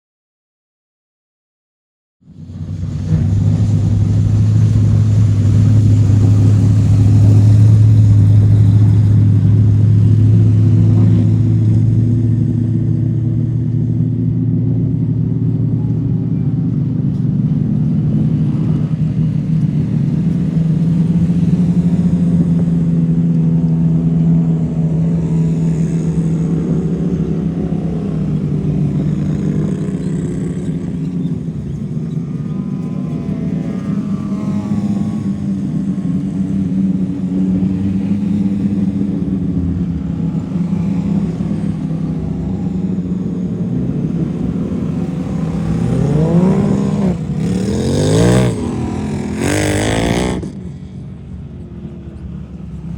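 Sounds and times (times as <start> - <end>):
off-road vehicle engine drone: 2.2 - 52.9.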